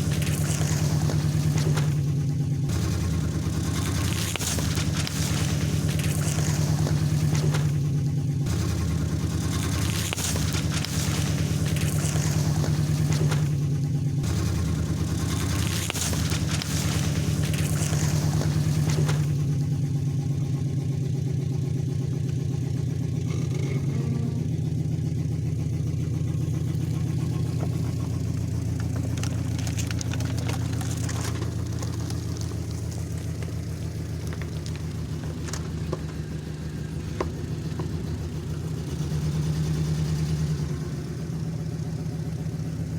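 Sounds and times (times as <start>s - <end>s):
truck engine droning: 0.0s - 42.9s.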